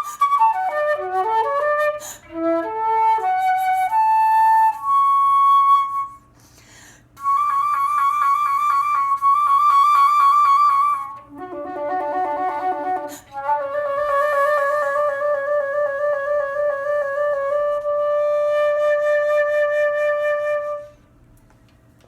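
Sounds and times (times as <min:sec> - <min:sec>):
solo flute: 0:00.0 - 0:06.5, 0:07.2 - 0:21.2.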